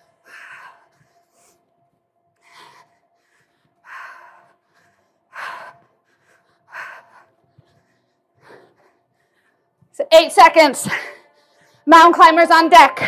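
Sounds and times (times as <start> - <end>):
woman breathing hard: 0.0 - 10.0, 10.6 - 11.9.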